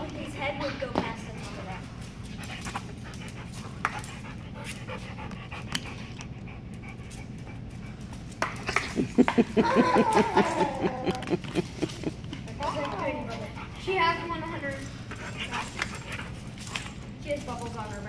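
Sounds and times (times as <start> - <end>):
dog panting: 0.0 - 9.3, 10.8 - 18.0.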